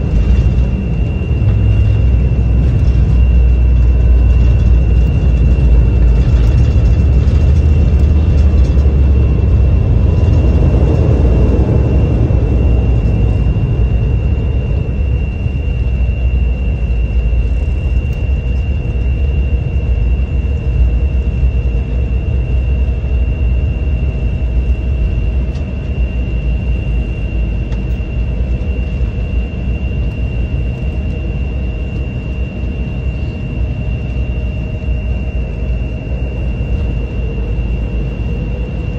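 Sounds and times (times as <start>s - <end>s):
jet cabin low rumble: 0.0s - 38.9s
steady high whine: 0.0s - 38.9s
whine falling in pitch: 0.0s - 38.9s.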